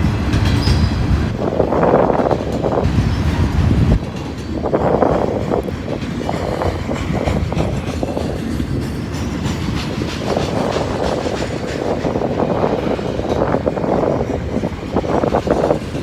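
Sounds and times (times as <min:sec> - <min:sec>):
freight train rumbling past: 0:00.0 - 0:16.0
wheels clicking over rail joints: 0:00.0 - 0:16.0.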